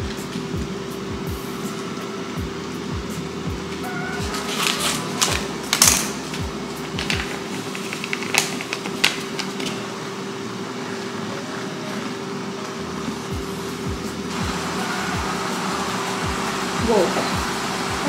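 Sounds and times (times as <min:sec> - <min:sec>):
background music with low beat: 0:00.0 - 0:09.7, 0:11.5 - 0:18.0.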